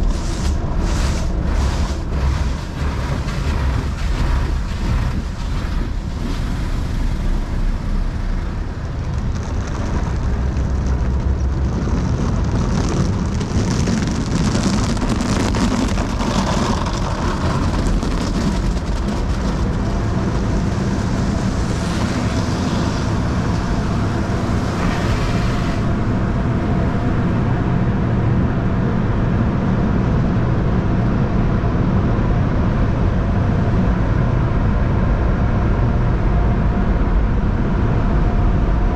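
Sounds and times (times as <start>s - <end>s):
car wash machinery rumble: 0.0s - 38.9s.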